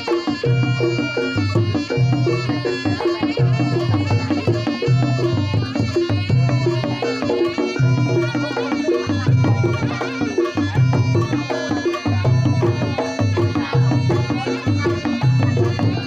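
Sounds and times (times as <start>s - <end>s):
hand drumming: 0.0s - 16.0s
reedy wind instrument melody: 0.0s - 16.0s.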